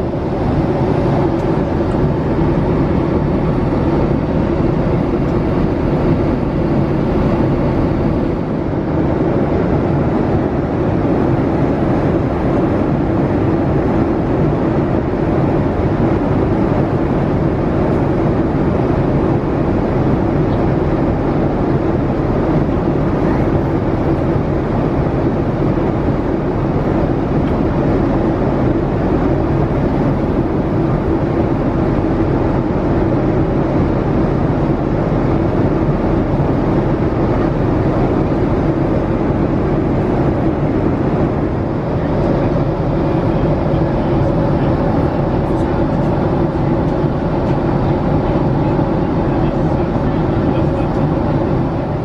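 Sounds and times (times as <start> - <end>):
airliner engine and airflow rush: 0.0 - 52.0.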